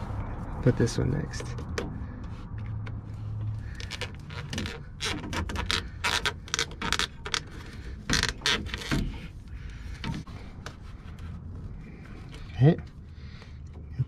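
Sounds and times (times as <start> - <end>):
rubber and plastic scraping: 0.0 - 12.5.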